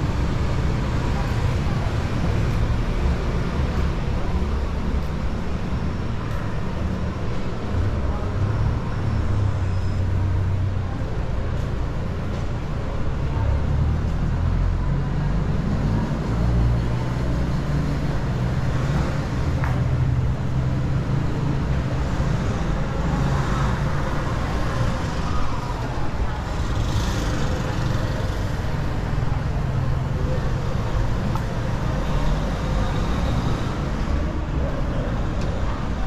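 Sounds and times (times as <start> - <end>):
city street traffic rumble: 0.0 - 36.0.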